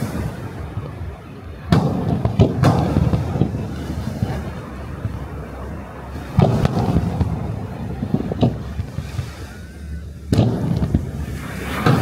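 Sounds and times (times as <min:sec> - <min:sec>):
firework shells booming: 0:00.0 - 0:05.3, 0:06.1 - 0:12.0
low rumble: 0:00.0 - 0:12.0.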